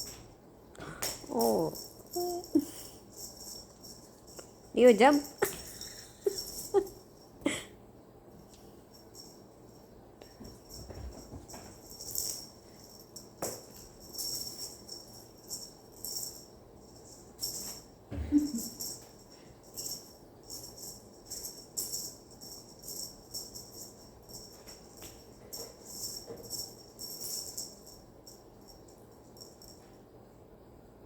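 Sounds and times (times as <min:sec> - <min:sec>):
bell toy jingling: 0:01.3 - 0:07.3, 0:08.9 - 0:29.8.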